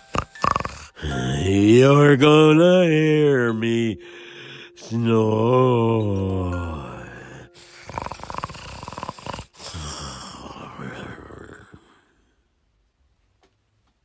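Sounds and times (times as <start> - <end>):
person snoring: 0.0 - 12.2.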